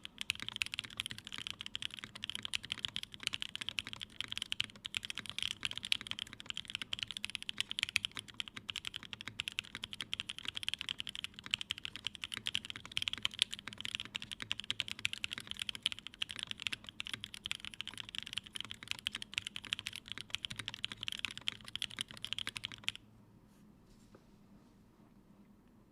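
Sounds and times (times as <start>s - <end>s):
fast typing on mechanical keyboard: 0.0s - 23.0s.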